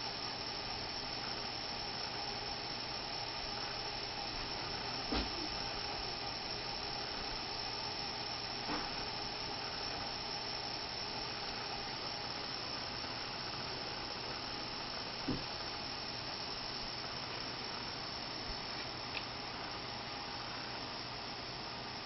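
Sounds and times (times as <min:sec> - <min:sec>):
electric cooling fan whirring: 0:00.0 - 0:22.0.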